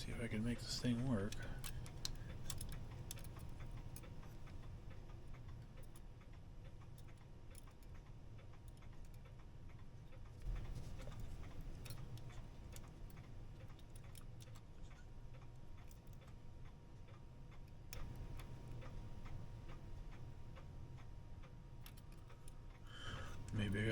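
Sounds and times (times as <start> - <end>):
clock movement ticking: 0.0 - 23.9.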